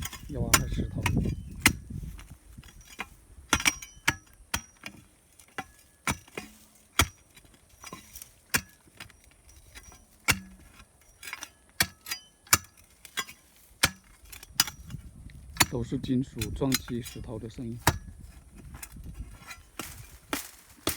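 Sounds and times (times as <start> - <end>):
metal tool striking stone: 0.0 - 1.9, 2.6 - 15.0, 15.6 - 20.9.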